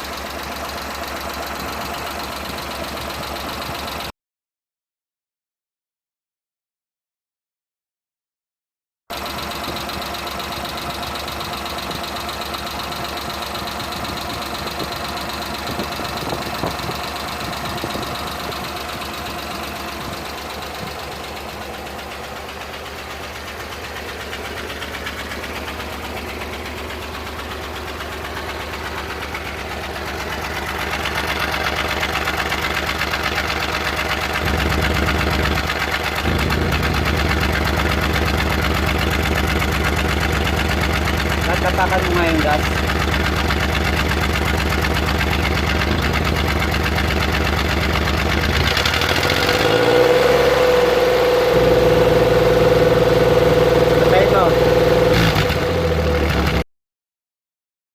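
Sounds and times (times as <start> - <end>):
car engine idling: 0.0 - 4.0, 9.1 - 56.6.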